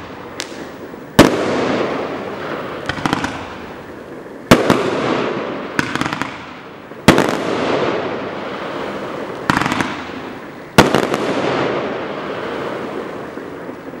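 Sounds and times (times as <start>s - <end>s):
firework bangs: 0.0s - 14.0s
firework crackling: 0.0s - 14.0s.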